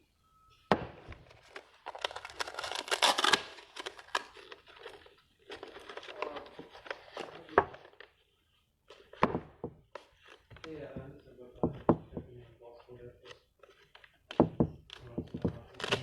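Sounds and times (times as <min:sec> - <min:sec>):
crinkling and rustling: 0:01.0 - 0:16.0.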